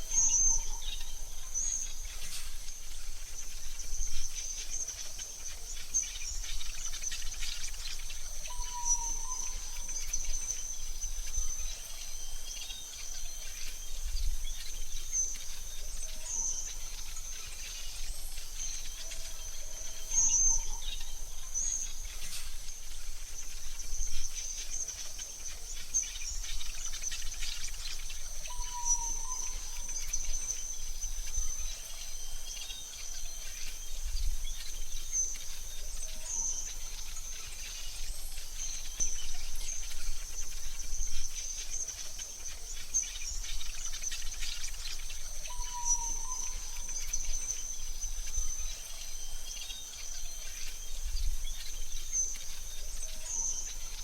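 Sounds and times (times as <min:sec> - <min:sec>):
bird chirps: 0:00.0 - 0:54.0
high insect drone: 0:00.0 - 0:54.0.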